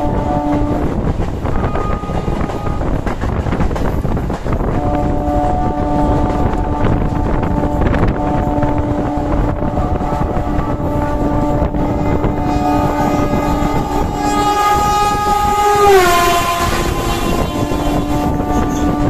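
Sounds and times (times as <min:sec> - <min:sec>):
train horn: 0:00.0 - 0:03.1, 0:04.7 - 0:19.0
train coaches rushing by: 0:00.0 - 0:19.0
train running noise and wind: 0:00.0 - 0:19.0.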